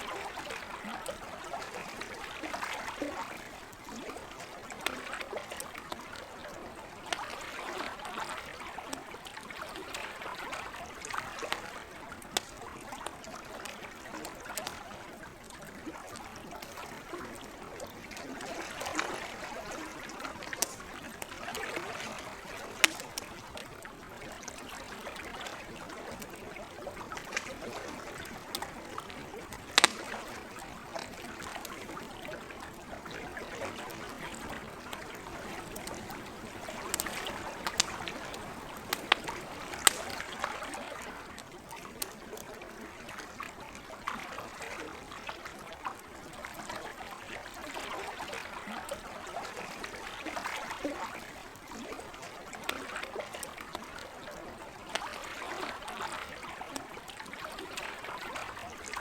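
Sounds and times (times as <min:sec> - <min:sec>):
lake water trickling and lapping: 0:00.0 - 0:59.0
campfire crackling and popping: 0:00.2 - 0:54.1, 0:54.7 - 0:55.9.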